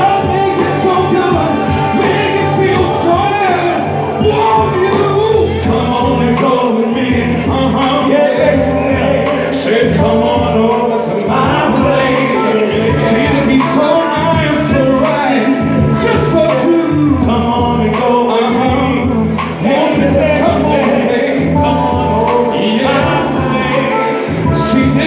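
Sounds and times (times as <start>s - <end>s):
amplified backing music with beat: 0.0s - 25.0s
male vocal group singing: 0.0s - 25.0s.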